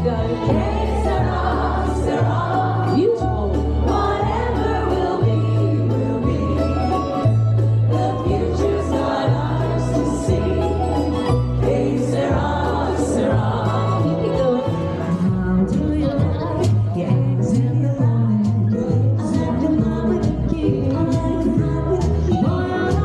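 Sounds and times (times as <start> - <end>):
bass line: 0.0 - 23.0
vocal group singing in harmony: 0.0 - 23.0.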